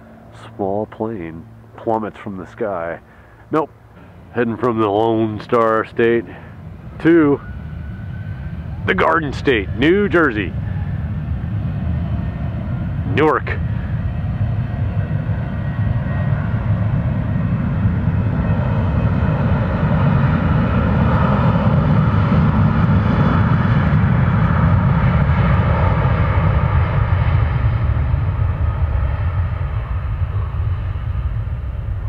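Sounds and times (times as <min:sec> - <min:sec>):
jet airliner taking off: 0:00.0 - 0:32.0.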